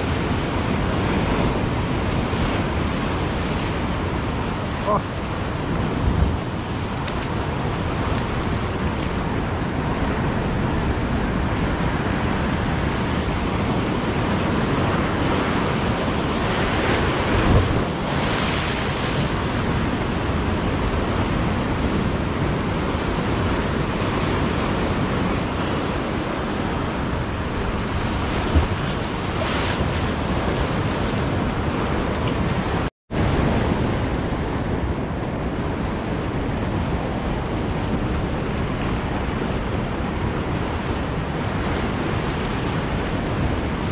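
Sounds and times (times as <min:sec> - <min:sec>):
surf breaking over rocks: 0:00.0 - 0:43.9
wind buffeting microphone: 0:00.0 - 0:43.9.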